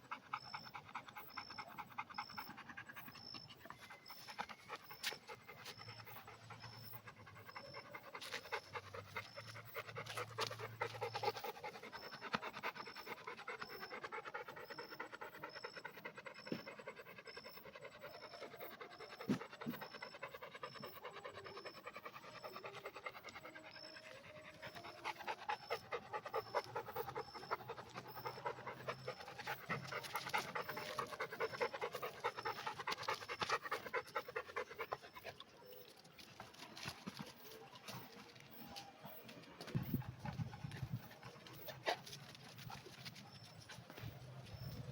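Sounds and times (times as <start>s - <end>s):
dog panting fast: 0.0s - 44.9s.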